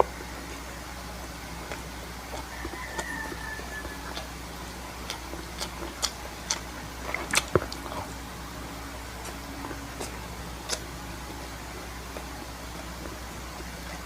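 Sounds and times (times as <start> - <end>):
low steady hum: 0.0 - 14.0
chewing and mouth smacks: 1.6 - 8.3, 9.2 - 14.0.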